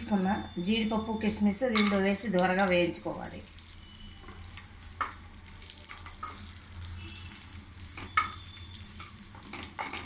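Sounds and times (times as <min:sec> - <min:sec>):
nuts sizzling in hot ghee: 0:00.1 - 0:10.0.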